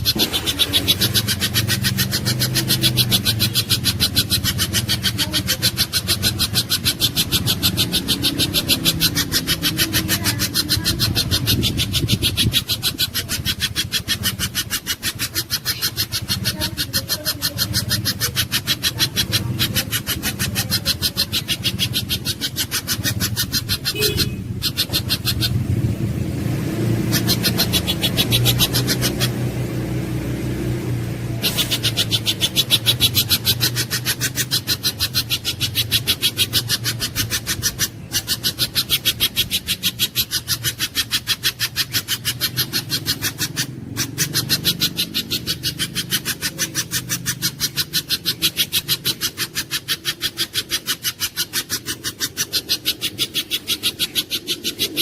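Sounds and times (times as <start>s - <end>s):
bird calling high sharp notes: 0.0s - 55.0s
low engine-like hum: 0.0s - 55.0s.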